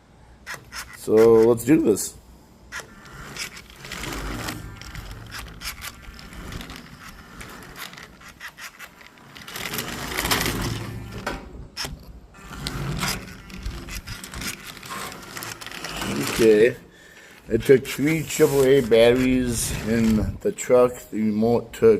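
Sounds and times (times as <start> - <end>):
plastic clicks and scraping: 0.4 - 1.7, 2.7 - 20.4.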